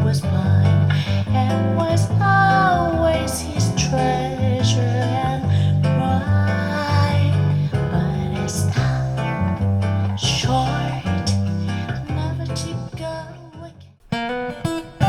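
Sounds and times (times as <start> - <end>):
guitar song through speakers: 0.0 - 15.0.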